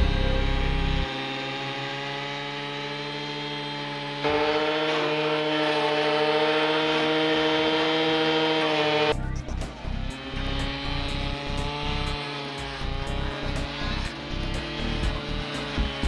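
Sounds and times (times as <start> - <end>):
brushcutter engine running: 0.0 - 16.0.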